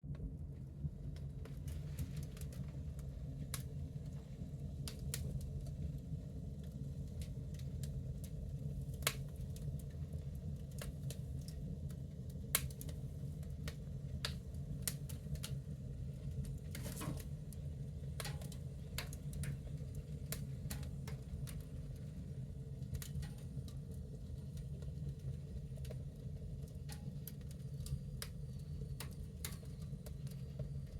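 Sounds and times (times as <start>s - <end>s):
low rumble of flames: 0.0s - 30.9s
wood fire crackling and popping: 1.0s - 30.9s.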